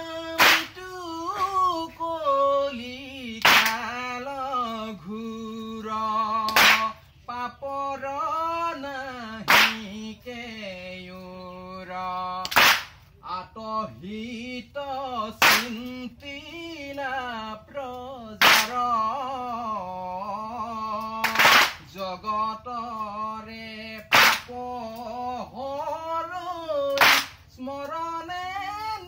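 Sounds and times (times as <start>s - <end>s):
group chanting devotional song: 0.0s - 29.0s.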